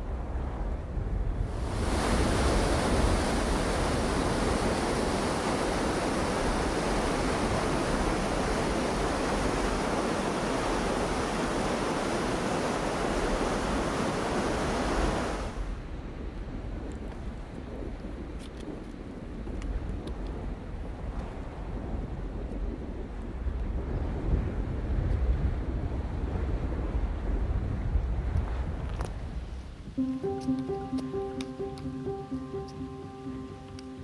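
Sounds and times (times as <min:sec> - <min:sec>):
wind noise: 0:00.0 - 0:34.0.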